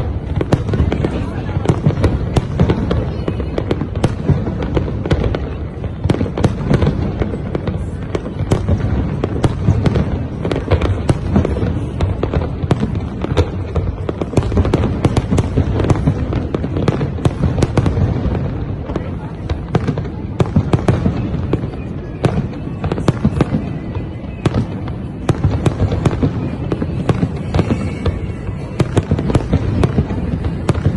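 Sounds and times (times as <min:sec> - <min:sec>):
fireworks booming: 0:00.0 - 0:30.9
fireworks cracking bangs: 0:00.0 - 0:30.9.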